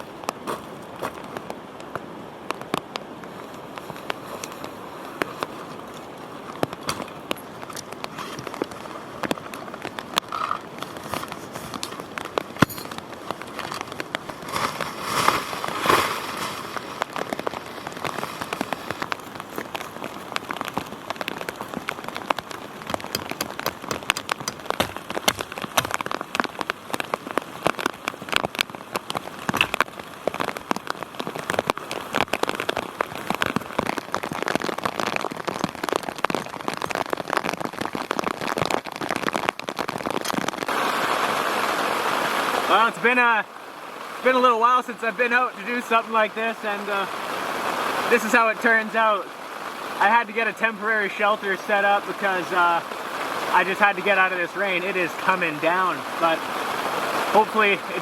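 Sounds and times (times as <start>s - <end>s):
heavy rain falling: 0.0s - 58.0s
raindrops hitting close: 0.0s - 58.0s.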